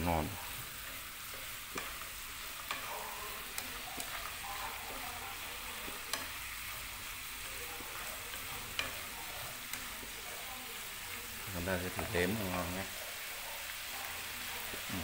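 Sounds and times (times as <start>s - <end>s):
cracklings sizzling in a pan: 0.0s - 15.0s.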